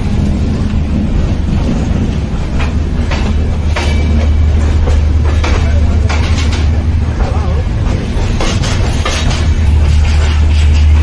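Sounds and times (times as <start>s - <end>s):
train rumbling: 0.0s - 11.0s
wheels clacking over rail joints: 0.0s - 11.0s.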